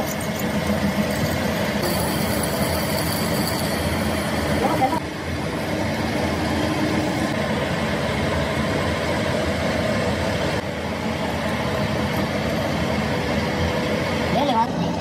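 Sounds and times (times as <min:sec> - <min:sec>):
metal lathe humming: 0:00.0 - 0:14.3.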